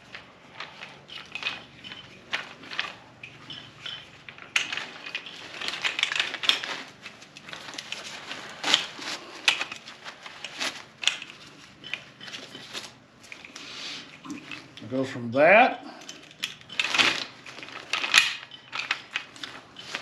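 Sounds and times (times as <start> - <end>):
chair legs clacking: 0.0 - 13.4, 16.0 - 20.0
fabric rustling: 0.0 - 14.8, 16.7 - 20.0.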